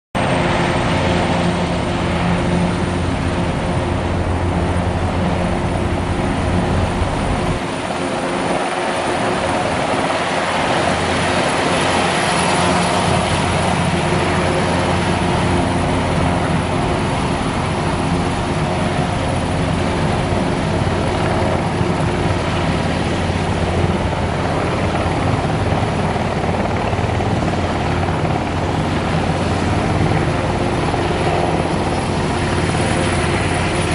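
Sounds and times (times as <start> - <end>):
helicopter rotor noise: 0.2 - 33.9
high turbine whine: 0.2 - 33.9.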